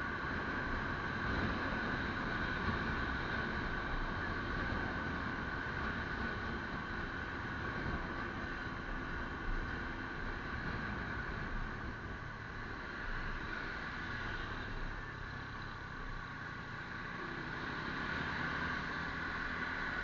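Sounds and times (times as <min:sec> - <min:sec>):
vehicle road noise: 0:00.0 - 0:20.0.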